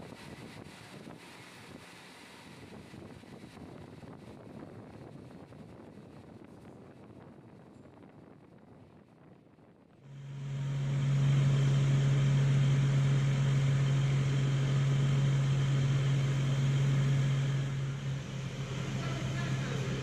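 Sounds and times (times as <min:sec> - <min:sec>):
low mechanical hum with hiss: 0:00.0 - 0:09.4, 0:10.0 - 0:20.0.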